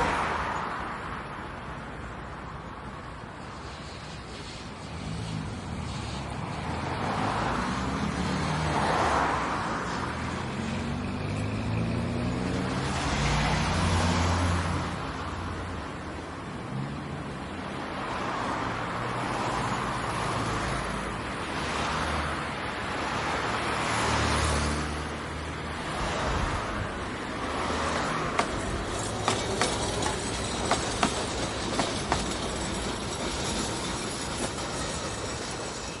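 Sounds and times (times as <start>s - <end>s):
traffic noise: 0.0s - 36.0s
vehicles passing: 0.0s - 36.0s.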